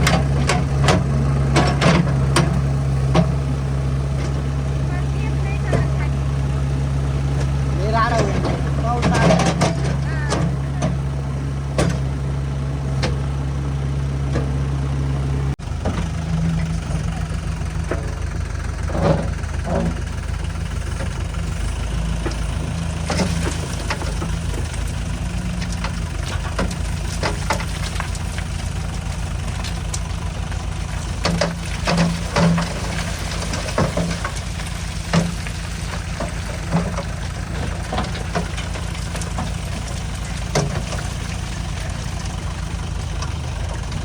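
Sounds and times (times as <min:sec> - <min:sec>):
engine with rapid low pulsing: 0:00.0 - 0:44.0
heavy diesel engine running: 0:00.0 - 0:44.0.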